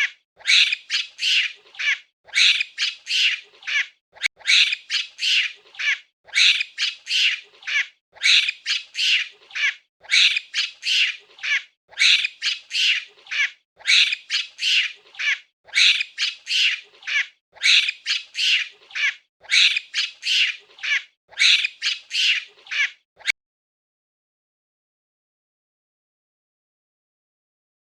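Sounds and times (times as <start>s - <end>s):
monkey high-pitched calls: 0.0s - 23.3s.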